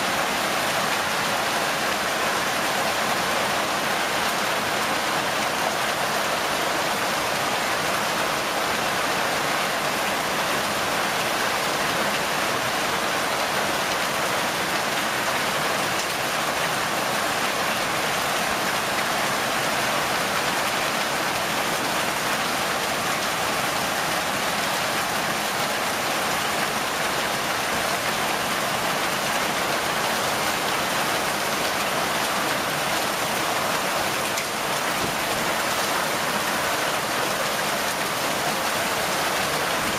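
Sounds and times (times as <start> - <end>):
hail and rain pelting down: 0.0 - 39.9.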